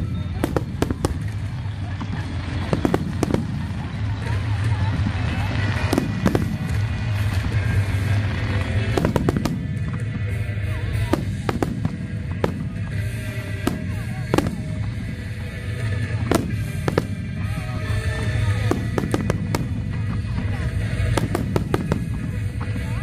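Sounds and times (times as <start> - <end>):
continuous low rumble: 0.0 - 23.0
fireworks bangs: 0.0 - 23.0.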